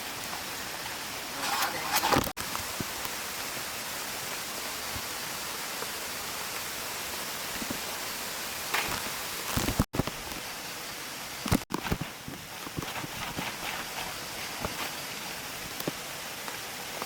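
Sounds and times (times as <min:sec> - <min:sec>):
mountain stream flowing: 0:00.0 - 0:17.0.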